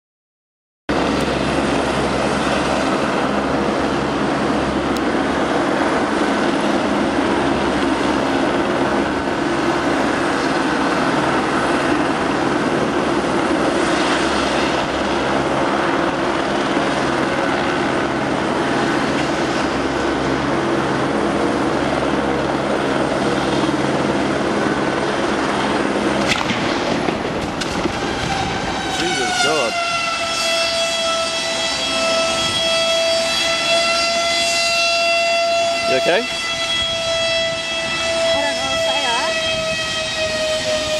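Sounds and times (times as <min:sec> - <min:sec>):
helicopter hovering drone: 0:00.9 - 0:40.9.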